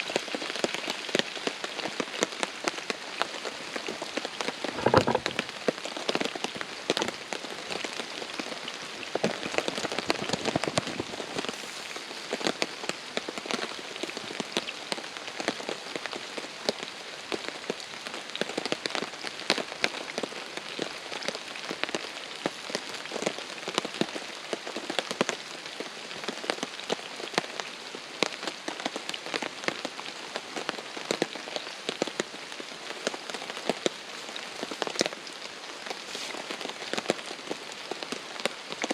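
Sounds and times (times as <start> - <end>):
heavy rain on a tarp: 0.0 - 38.9.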